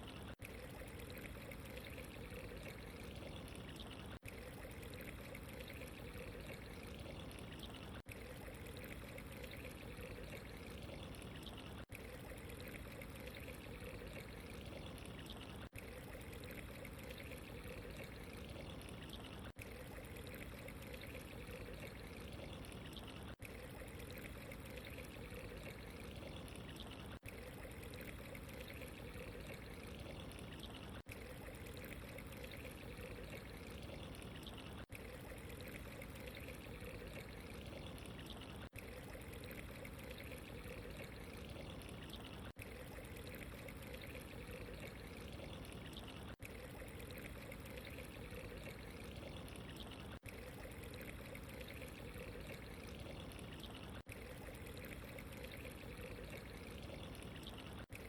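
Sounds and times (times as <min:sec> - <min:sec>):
trickling water: 0:00.0 - 0:58.0.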